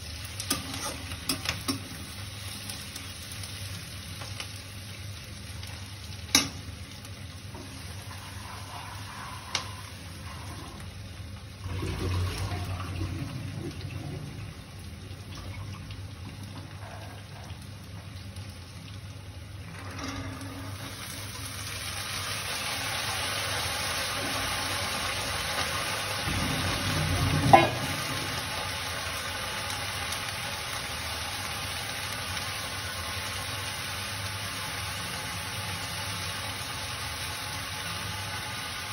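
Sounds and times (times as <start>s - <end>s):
water heating hiss: 0.0s - 38.9s.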